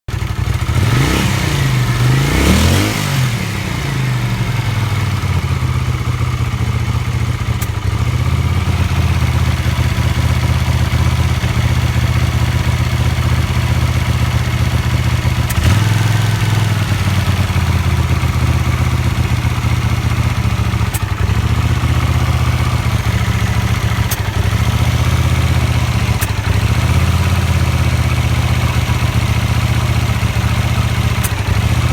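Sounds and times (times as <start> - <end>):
motorcycle engine revving and idling: 0.1 - 31.9.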